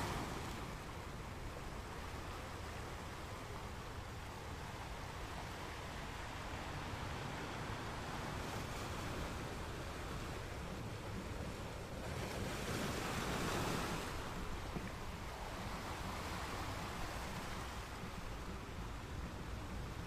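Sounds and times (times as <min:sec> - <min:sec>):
ocean waves washing in: 0:00.0 - 0:20.0.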